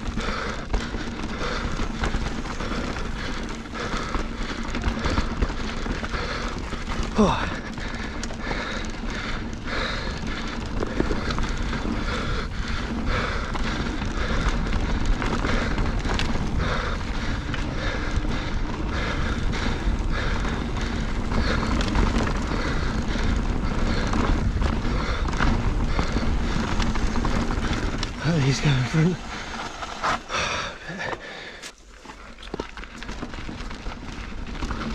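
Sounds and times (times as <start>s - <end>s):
bike rattling over bumps: 0.0s - 34.9s
tyres crunching on stony trail: 0.0s - 34.9s.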